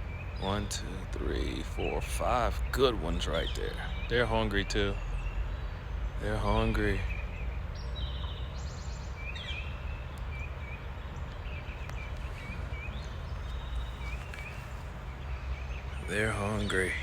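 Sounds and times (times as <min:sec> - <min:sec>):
songbirds chirping: 0:00.0 - 0:17.0
steady low rumble: 0:00.0 - 0:17.0.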